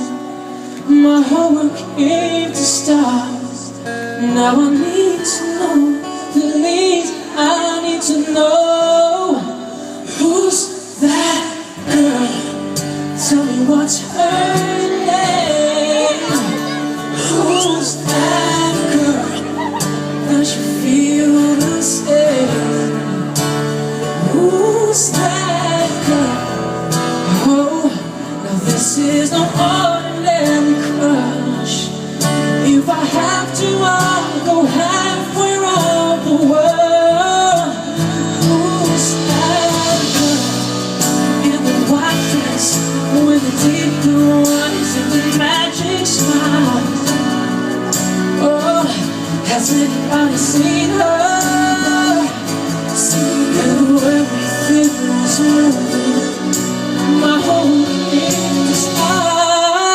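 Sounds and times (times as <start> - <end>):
live band playing: 0.0 - 59.9
person singing: 0.0 - 59.9.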